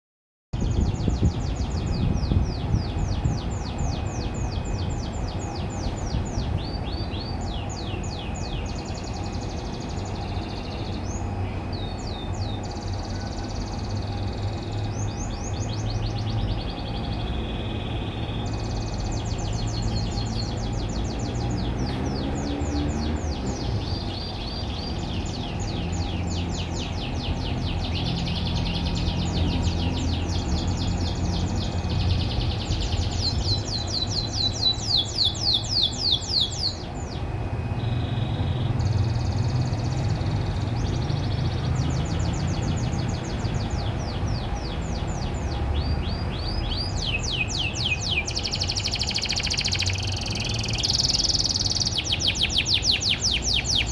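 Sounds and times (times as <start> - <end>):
canary singing trills: 0.6 - 53.9.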